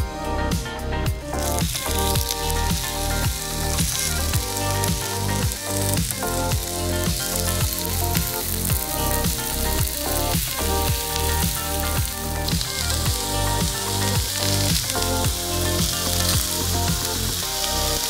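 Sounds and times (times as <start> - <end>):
background music with beat: 0.0 - 18.0
vegetables sizzling on a grill: 1.4 - 18.0.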